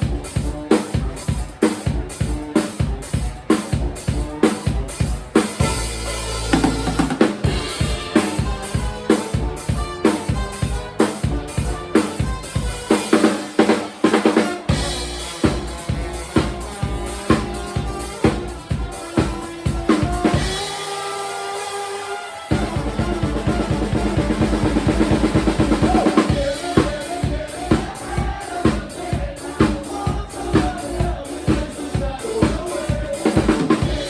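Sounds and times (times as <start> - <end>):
drum kit beat: 0.0 - 34.0
live band playing: 0.0 - 34.0.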